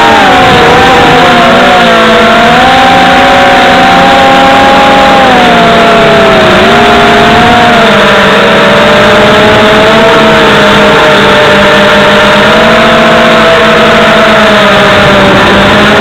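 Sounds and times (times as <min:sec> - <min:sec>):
quadcopter propellers buzzing: 0:00.0 - 0:16.0.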